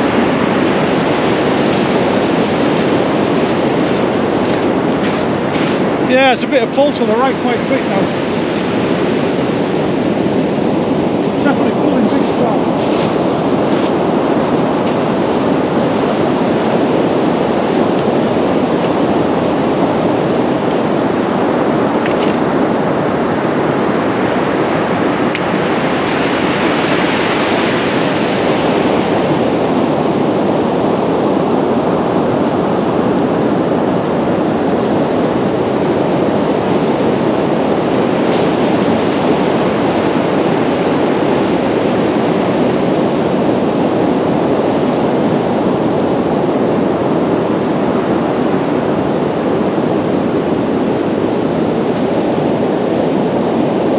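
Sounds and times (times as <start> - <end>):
sea surf breaking on beach: 0.0 - 53.9
wind on microphone: 0.0 - 53.9.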